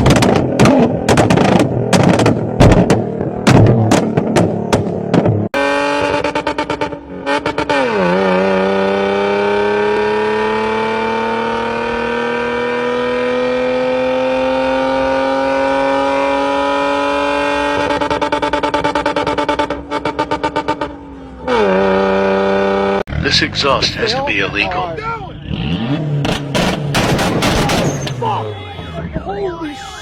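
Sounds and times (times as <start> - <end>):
car engine accelerating: 0.0 - 28.4.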